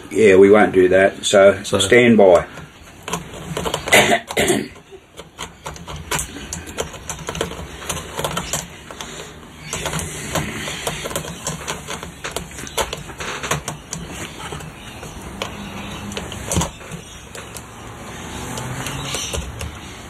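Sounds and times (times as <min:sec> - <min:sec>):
clicks and rustles of wires: 0:01.7 - 0:20.0.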